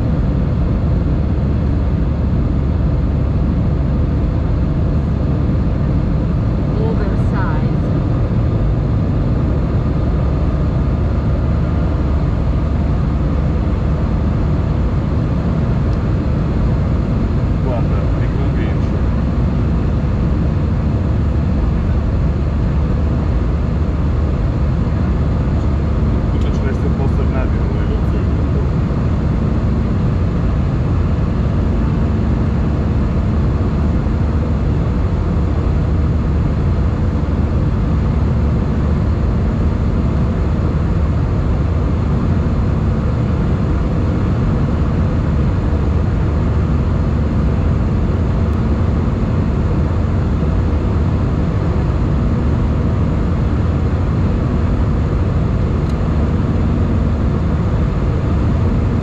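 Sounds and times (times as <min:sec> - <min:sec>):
aircraft engine drone: 0:00.0 - 0:59.0
faint steady hum: 0:00.0 - 0:59.0.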